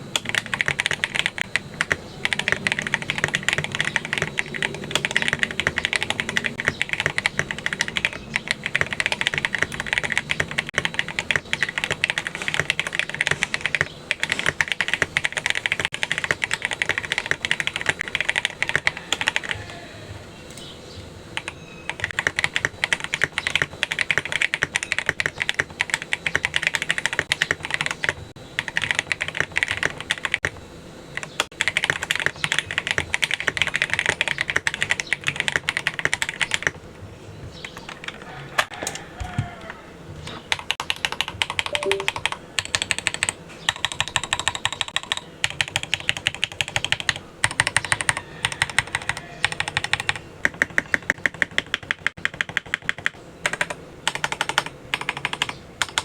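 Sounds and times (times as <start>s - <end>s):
mechanical keyboard typing: 0.1s - 19.6s, 21.4s - 30.5s, 31.2s - 36.8s, 40.5s - 56.0s.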